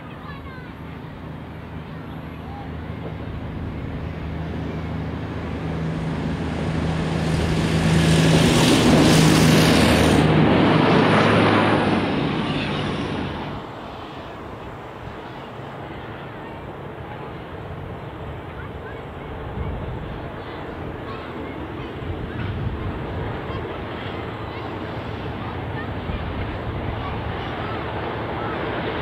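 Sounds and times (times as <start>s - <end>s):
diesel engine drone: 0.0s - 29.0s
wheels rushing on rail: 0.0s - 29.0s.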